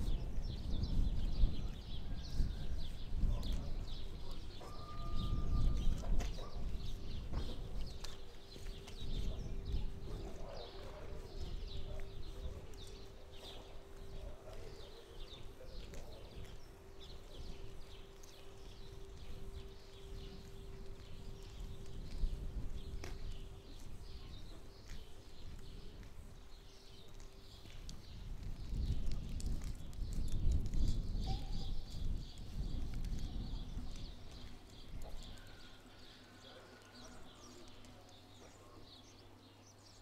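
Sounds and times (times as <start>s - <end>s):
footsteps on hard ground: 0.0s - 39.2s
small birds chirping: 0.0s - 40.0s.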